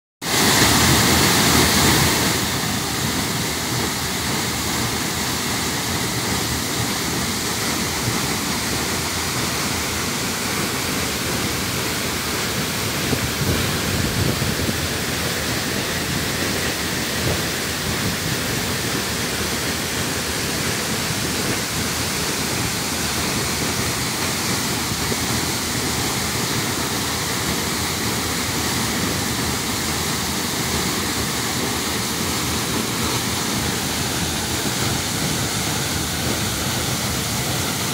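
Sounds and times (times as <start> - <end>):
waterfall rushing: 0.2 - 37.9.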